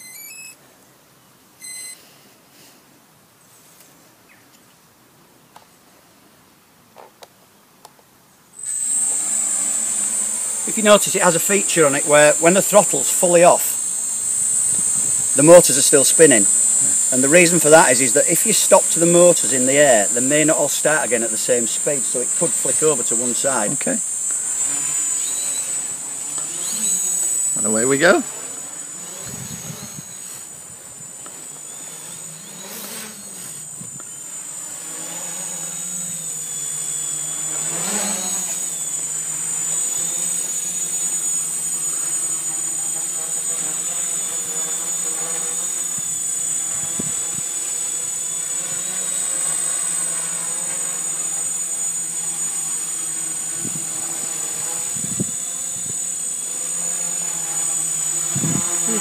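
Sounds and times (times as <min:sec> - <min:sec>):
high steady whine: 0:00.0 - 0:00.6, 0:08.6 - 0:59.0
drone propellers buzzing: 0:08.6 - 0:59.0.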